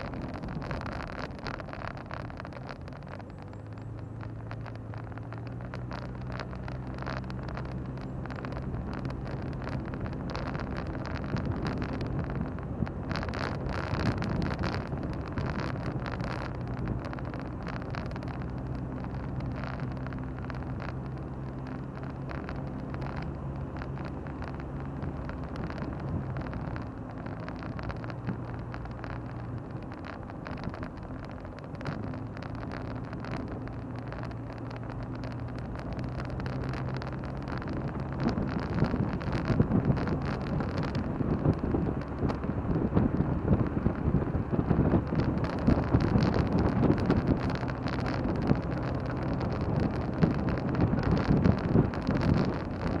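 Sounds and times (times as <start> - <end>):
car engine running: 0.0 - 53.0
gusty wind noise: 0.0 - 53.0
tyre and road noise: 0.0 - 53.0.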